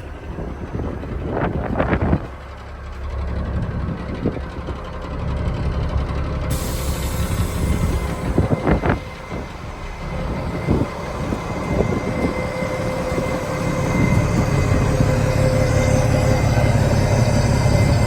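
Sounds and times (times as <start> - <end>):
diesel truck engine rumbling: 0.0 - 18.0.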